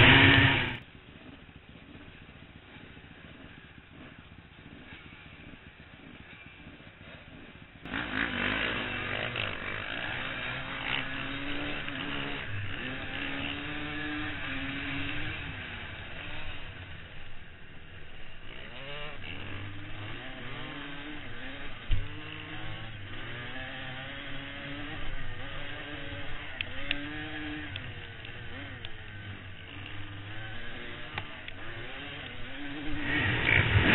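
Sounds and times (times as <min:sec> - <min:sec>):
dirt bike engine revving: 0:00.0 - 0:00.8, 0:01.9 - 0:33.9.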